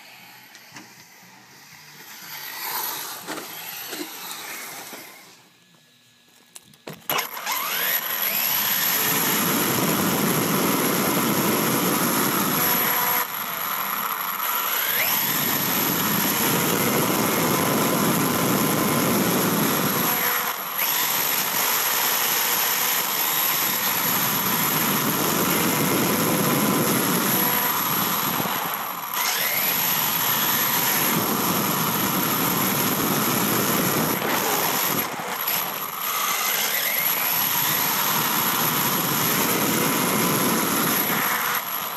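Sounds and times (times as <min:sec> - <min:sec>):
electric motor whine: 0:00.0 - 0:41.9.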